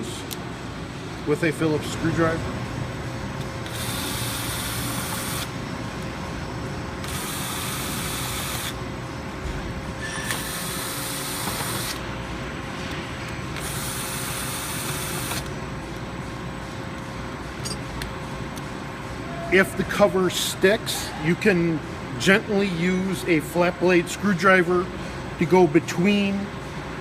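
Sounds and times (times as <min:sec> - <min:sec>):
faint constant hum: 0:00.0 - 0:27.0.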